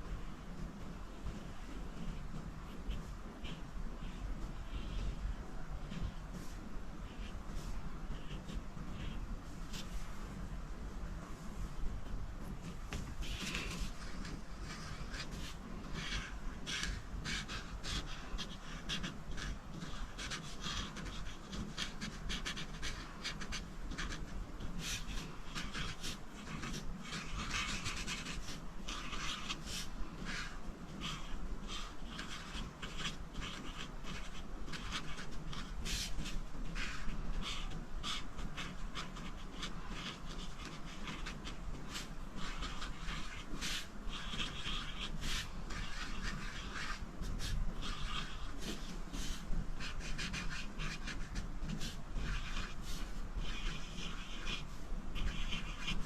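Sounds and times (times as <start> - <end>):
drawing tool rubbing on paper: 0.7 - 10.5, 12.4 - 56.0.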